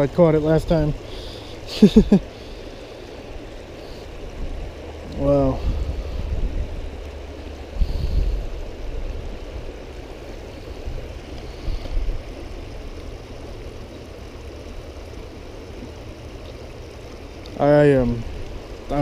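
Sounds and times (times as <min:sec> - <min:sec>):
creek water rushing over rocks: 0:00.0 - 0:19.0.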